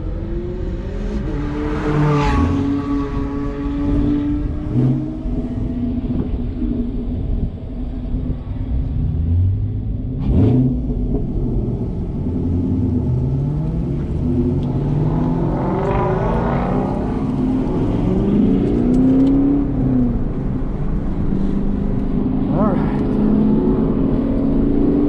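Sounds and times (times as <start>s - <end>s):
car engine revving: 0.0s - 7.0s, 7.9s - 25.0s.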